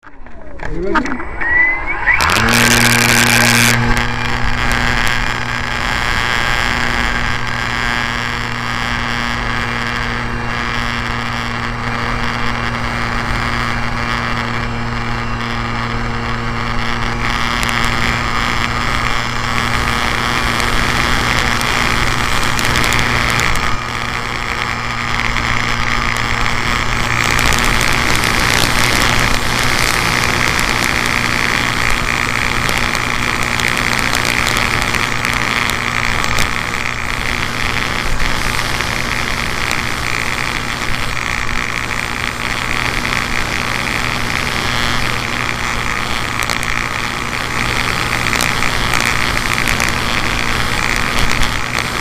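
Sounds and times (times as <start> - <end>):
model plane motor humming: 0.0 - 52.0.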